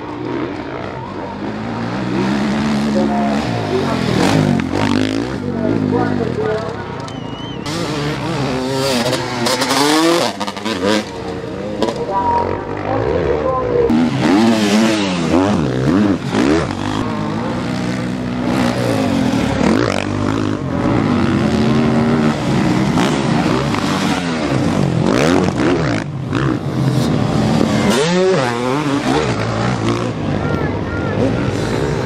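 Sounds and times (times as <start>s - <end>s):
motocross bikes revving past: 0.0s - 32.0s.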